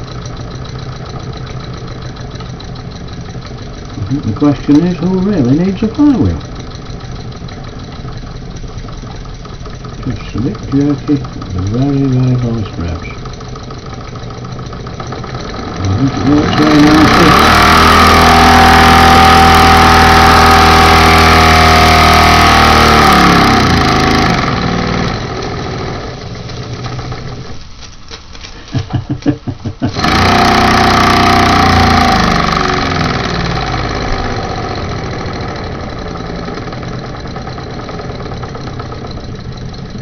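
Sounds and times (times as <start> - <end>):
model steam engine exhaust beats: 0.0 - 27.6, 28.5 - 40.0.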